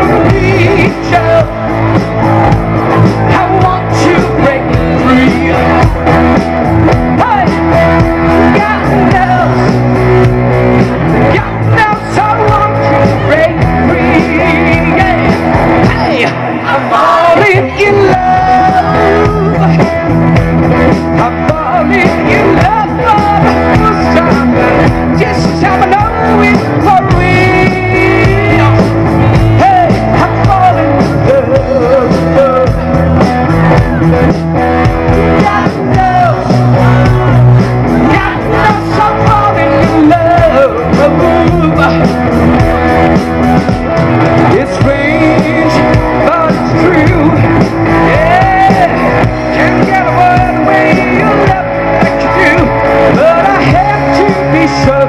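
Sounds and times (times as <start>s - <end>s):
man singing into microphone: 0.0s - 43.1s, 44.4s - 55.0s
bass guitar: 0.0s - 55.0s
drum kit: 0.0s - 55.0s
electric guitars: 0.0s - 55.0s.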